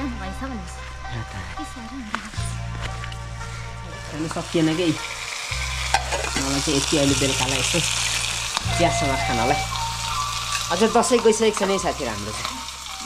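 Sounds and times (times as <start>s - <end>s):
pork sizzling in a pan: 1.5s - 13.0s.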